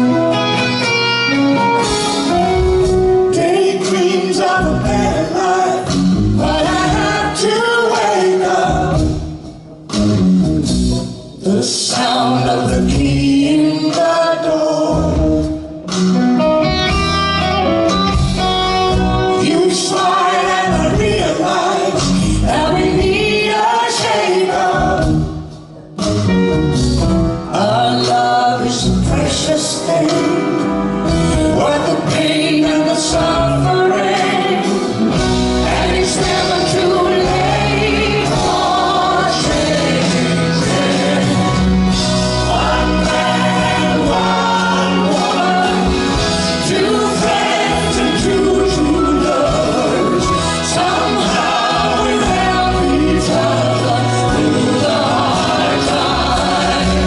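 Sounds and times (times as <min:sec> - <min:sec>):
live band playing: 0:00.0 - 0:57.0
man and woman singing duet: 0:03.2 - 0:09.3, 0:11.4 - 0:15.7, 0:18.8 - 0:25.4, 0:27.5 - 0:57.0.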